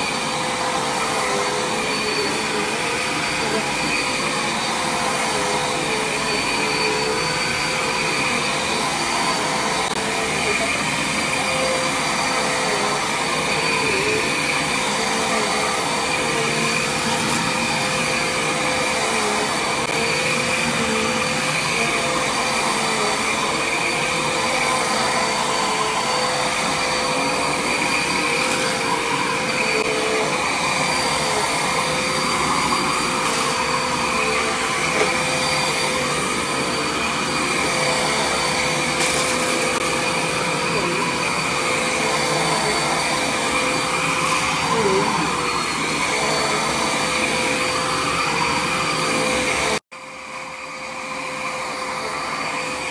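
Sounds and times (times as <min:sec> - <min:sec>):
vacuum cleaner on carpet: 0:00.0 - 0:52.9.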